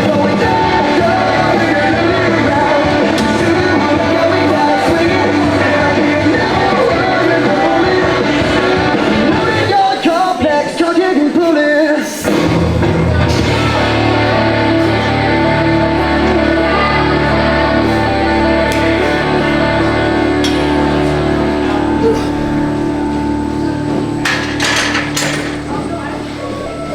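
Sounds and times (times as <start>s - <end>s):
song with singing: 0.0s - 26.9s.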